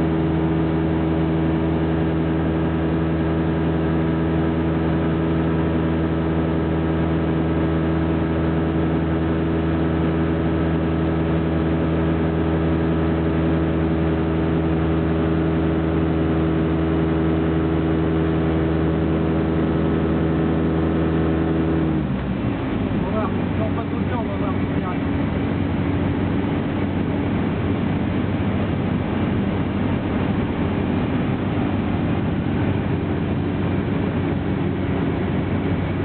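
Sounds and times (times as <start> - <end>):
light aircraft engine and propeller: 0.0 - 36.0.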